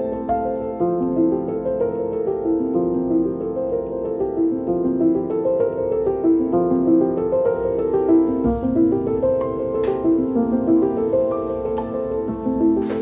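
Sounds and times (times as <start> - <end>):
piano instrumental music: 0.0 - 13.0.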